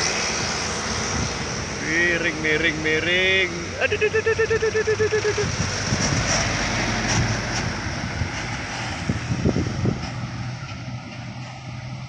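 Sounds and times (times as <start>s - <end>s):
truck diesel engine passing: 0.0s - 12.0s.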